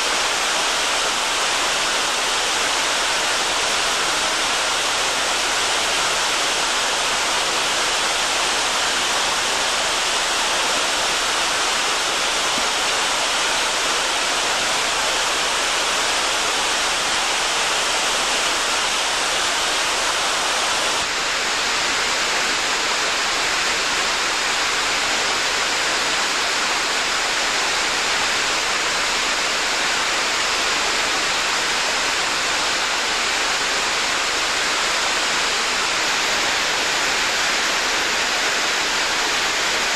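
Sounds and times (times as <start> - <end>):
water cascading over a weir: 0.0 - 39.9.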